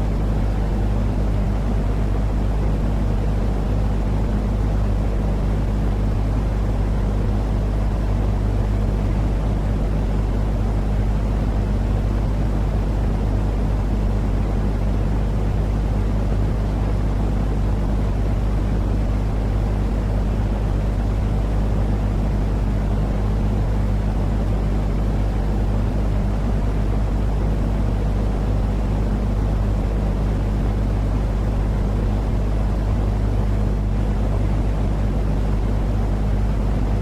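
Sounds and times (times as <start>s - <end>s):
constant low hum: 0.0s - 37.0s.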